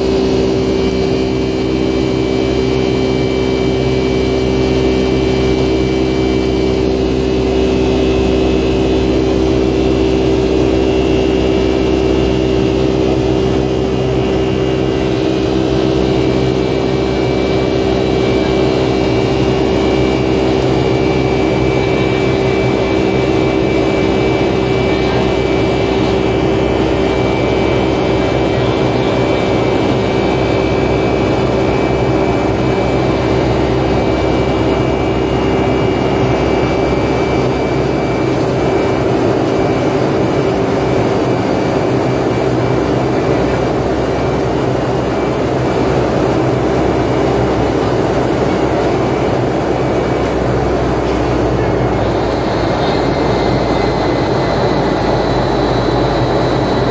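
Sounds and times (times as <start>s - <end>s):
jet cabin drone: 0.0s - 56.9s.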